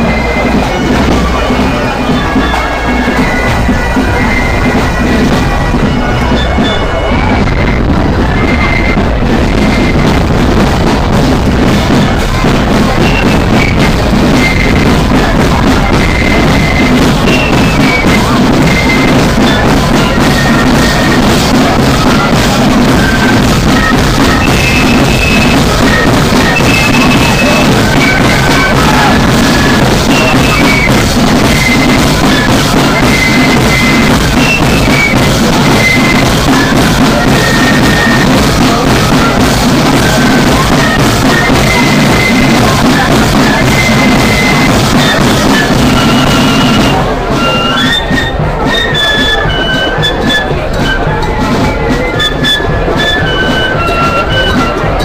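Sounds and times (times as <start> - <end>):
bass and side drums: 0.0 - 55.0
marching band melody: 0.0 - 55.0.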